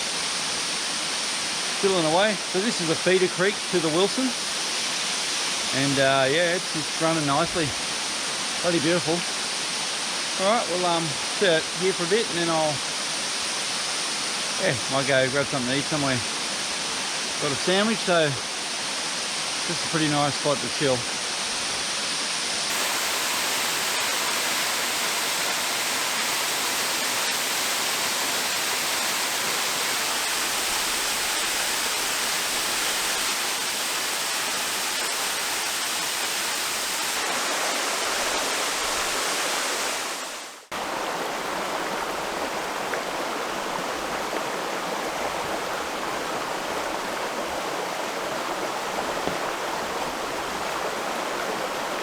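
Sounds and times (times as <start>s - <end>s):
small waterfall rushing: 0.0s - 52.0s.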